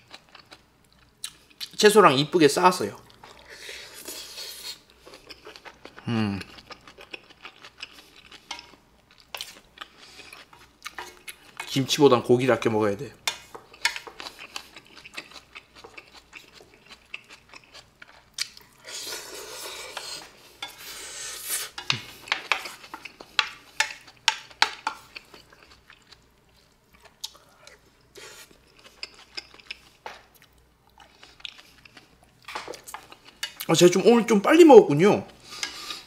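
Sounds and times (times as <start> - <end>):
chewing: 3.0 - 11.7, 13.3 - 33.7.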